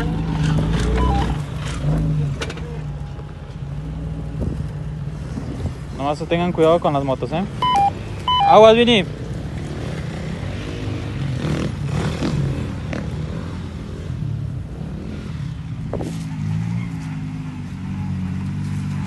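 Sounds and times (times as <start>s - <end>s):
off-road engines crawling: 0.0s - 19.0s.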